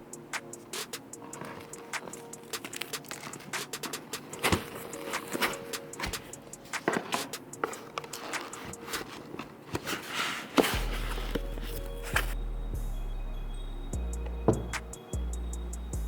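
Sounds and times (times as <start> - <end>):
background music with deep bass: 0.0 - 9.5, 10.6 - 16.0.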